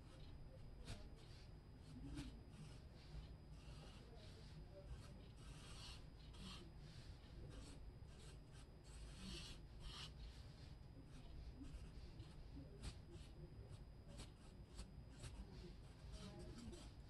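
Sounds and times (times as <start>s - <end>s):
marker stroking on paper: 0.0s - 17.0s.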